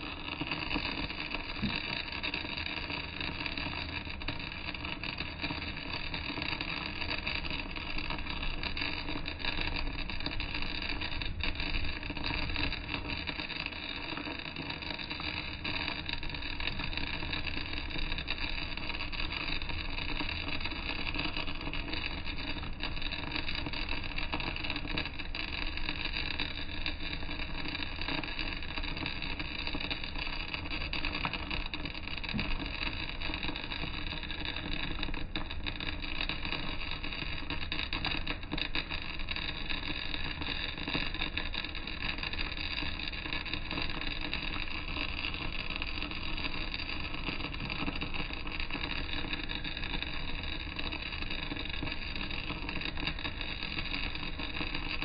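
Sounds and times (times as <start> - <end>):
welding arc crackling hiss: 0.0 - 55.0.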